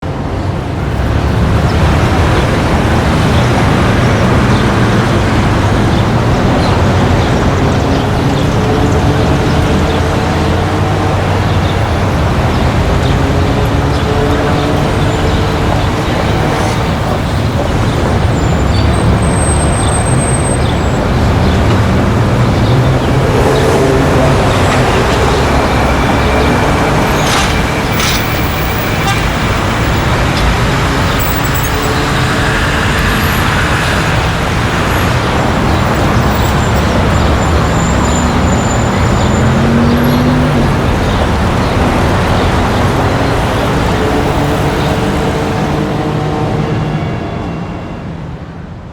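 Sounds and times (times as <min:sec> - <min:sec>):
car and bus engines passing: 0:00.0 - 0:48.9.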